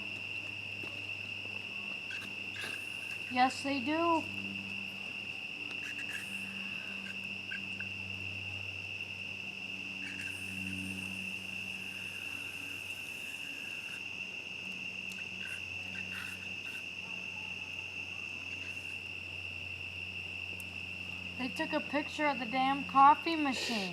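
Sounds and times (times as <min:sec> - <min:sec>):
crickets chirping: 0:00.0 - 0:23.9.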